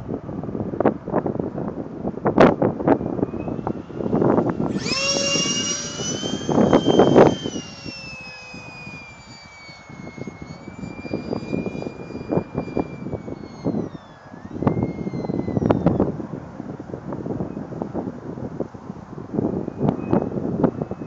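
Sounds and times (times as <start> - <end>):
wind rumbling on microphone: 0.0 - 21.0
electric jet model whine: 1.2 - 21.0.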